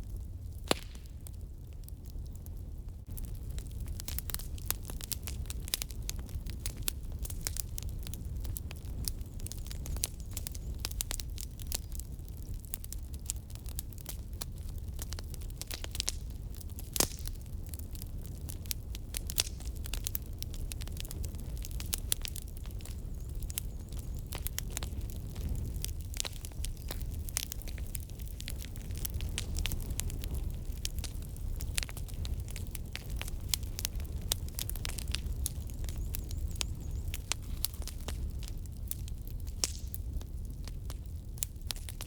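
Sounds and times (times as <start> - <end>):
firewood crackling and popping: 0.0 - 42.0
low rumble of flames: 0.0 - 42.0.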